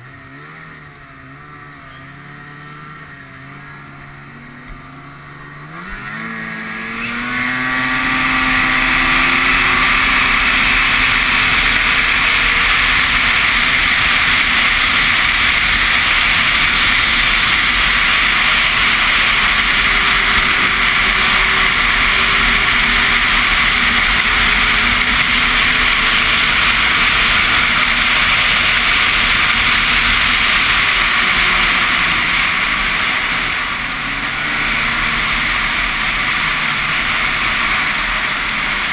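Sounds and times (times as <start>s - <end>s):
snowmobile engine revving: 0.0s - 38.9s
loud rushing hiss: 6.0s - 38.9s.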